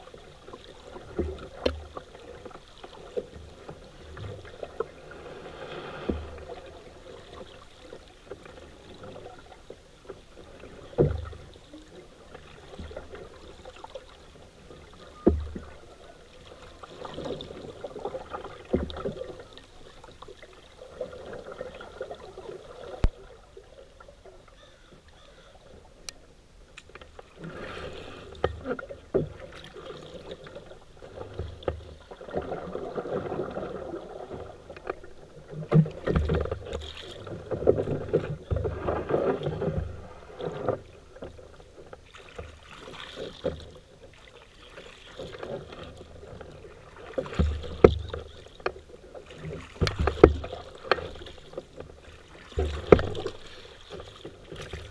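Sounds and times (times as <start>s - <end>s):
paddle splashing through water: 0.0s - 25.9s, 27.0s - 54.9s.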